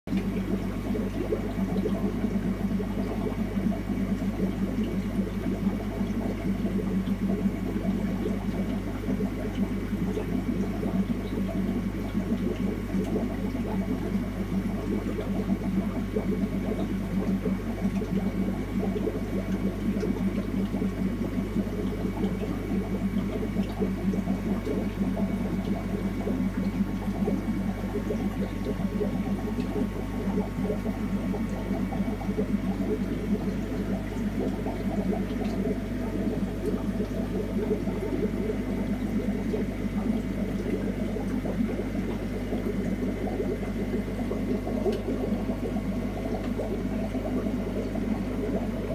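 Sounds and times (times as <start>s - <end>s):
pump humming: 0.1s - 48.9s
water bubbling and splashing: 0.1s - 48.9s.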